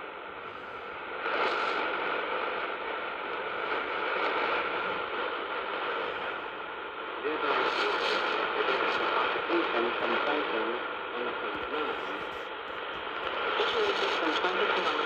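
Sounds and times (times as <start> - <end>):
radio static and hiss: 0.0 - 15.0.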